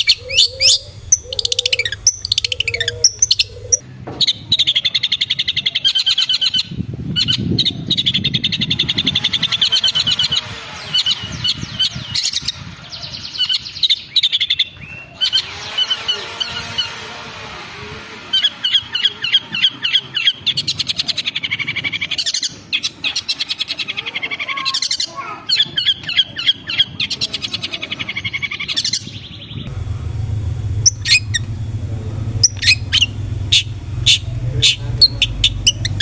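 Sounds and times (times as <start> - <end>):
bird chattering song: 0.0 - 17.1, 18.2 - 29.7, 30.8 - 31.6, 32.3 - 36.0
steady low hum: 0.0 - 23.1, 28.5 - 36.0
sharp bird calls: 0.0 - 29.7, 30.8 - 31.6, 32.4 - 36.0.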